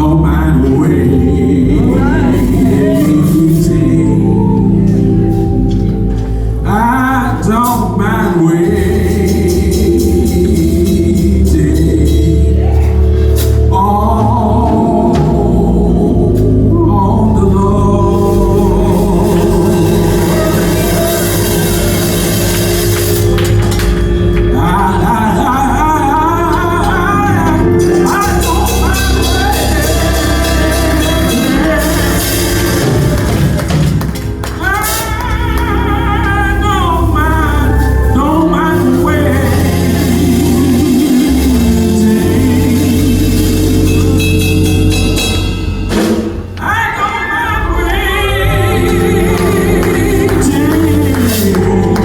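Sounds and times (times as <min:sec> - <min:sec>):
person singing: 0:00.0 - 0:45.6, 0:46.4 - 0:52.0
gospel band with steady bass: 0:00.0 - 0:52.0.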